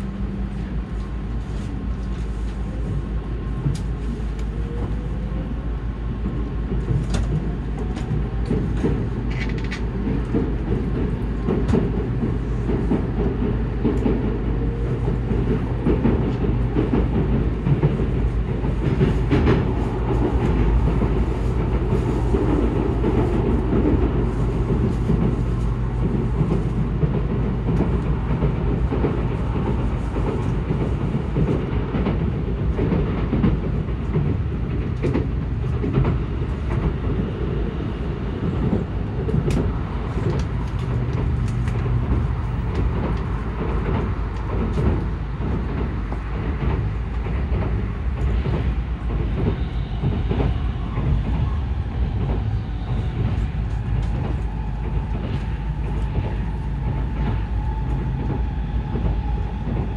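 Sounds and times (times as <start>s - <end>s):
train rumble on rails: 0.0s - 59.9s.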